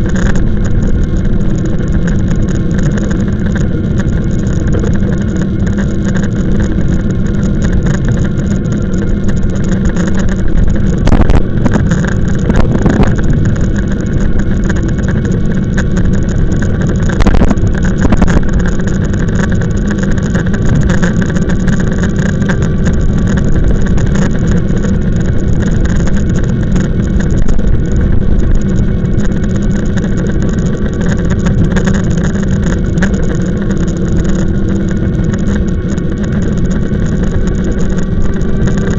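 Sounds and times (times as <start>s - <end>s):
droning tones: 0.0s - 38.9s
road rumble: 0.0s - 38.9s
wind noise: 0.0s - 38.9s.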